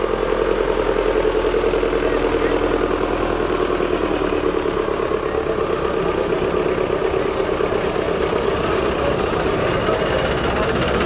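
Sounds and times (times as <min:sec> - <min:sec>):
tractor engines idling: 0:00.0 - 0:11.0.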